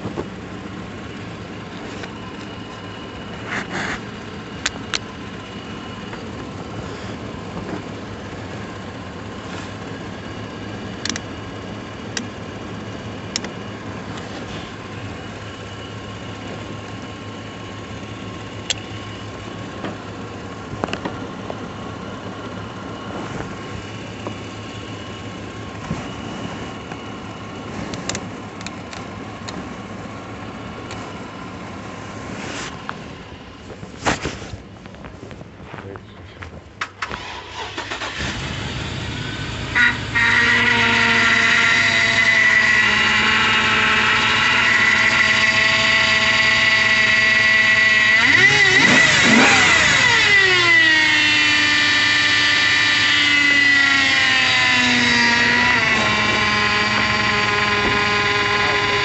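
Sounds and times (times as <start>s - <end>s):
high whine: 0.0s - 59.0s
vehicle engine idling: 0.0s - 59.0s.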